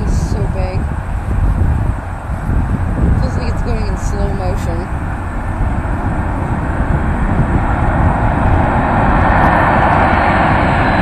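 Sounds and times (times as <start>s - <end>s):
jet engines rumble and hiss: 0.0s - 11.0s
wind rumble on microphone: 0.0s - 11.0s.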